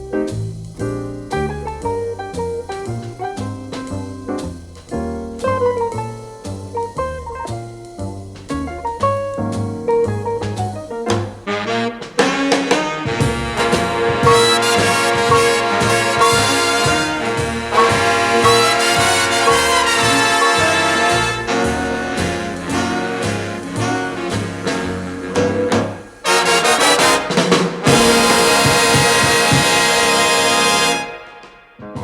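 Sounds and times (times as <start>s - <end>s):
swing music with brass: 0.0s - 32.0s.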